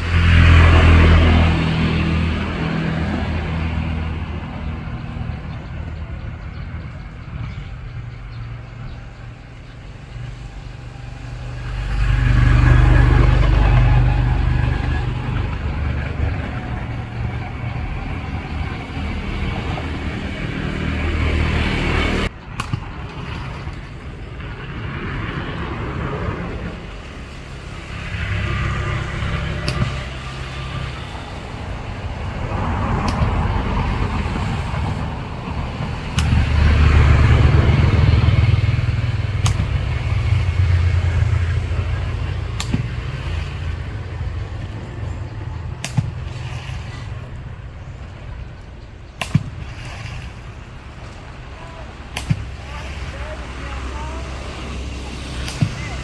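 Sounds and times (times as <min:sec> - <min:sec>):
engine rumble: 0:00.0 - 0:56.0.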